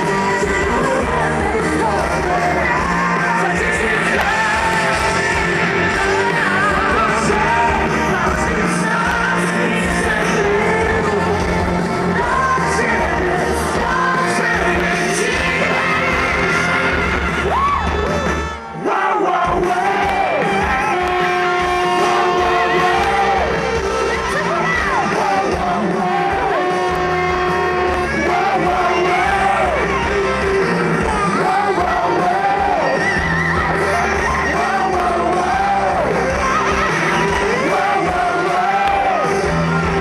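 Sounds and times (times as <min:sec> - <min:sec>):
crowd shouting: 0:00.0 - 0:40.0
live pop song over loudspeakers: 0:00.0 - 0:40.0.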